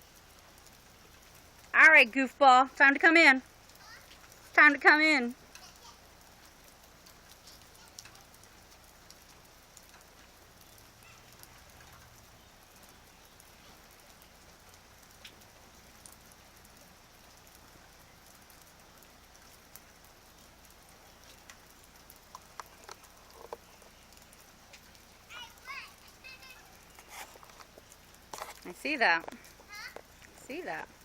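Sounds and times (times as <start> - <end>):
faint steady rain: 0.0 - 31.0
raindrops ticking: 0.0 - 31.0.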